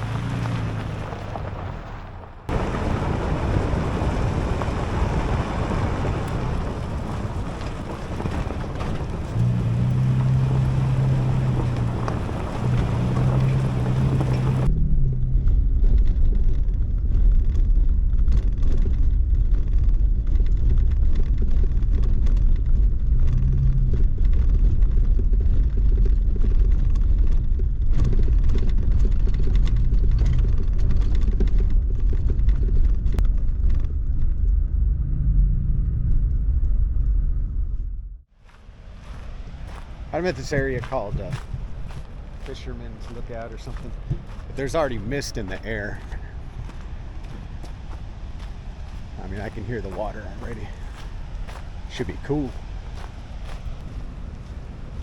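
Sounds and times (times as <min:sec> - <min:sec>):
deep rumble: 0:00.0 - 0:55.0
low engine hum: 0:00.0 - 0:55.0
road and tyre noise: 0:00.0 - 0:55.0.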